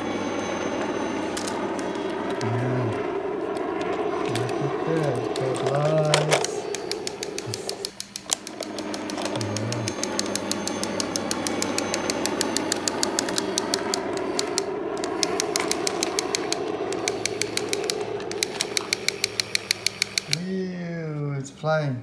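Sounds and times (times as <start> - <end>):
toy helicopter whirring and clicking: 0.8 - 20.6.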